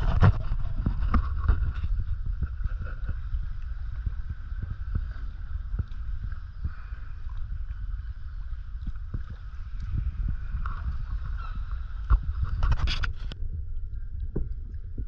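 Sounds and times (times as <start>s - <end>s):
boat moving through water: 0.0s - 15.0s
faint steady hum: 0.0s - 15.0s
wind rumbling on microphone: 0.0s - 15.0s.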